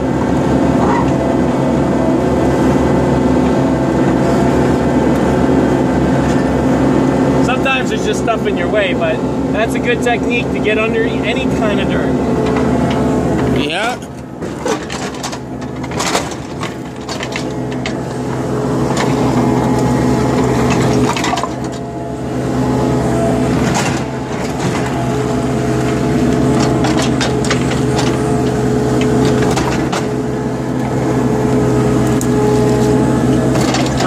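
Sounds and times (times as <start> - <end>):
earth-moving machine engine: 0.0 - 34.0.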